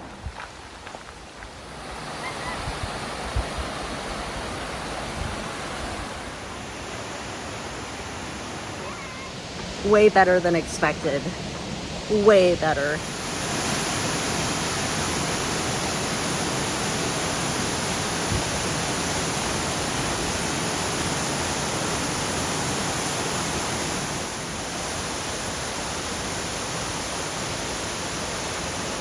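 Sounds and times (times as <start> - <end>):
waterfall rushing: 1.6 - 29.0.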